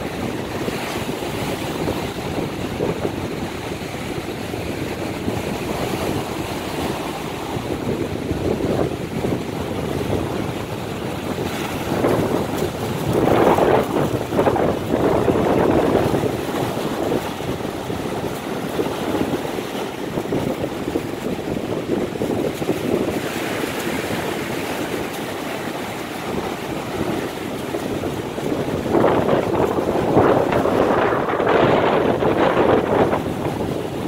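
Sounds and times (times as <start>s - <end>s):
small waves breaking on shore: 0.0s - 34.0s
wind on microphone: 0.0s - 34.0s.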